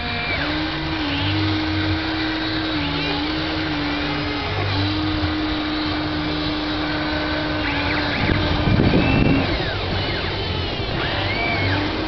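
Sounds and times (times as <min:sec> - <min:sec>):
rough scraping: 0:00.0 - 0:12.0
small electric motors whining: 0:00.0 - 0:12.0.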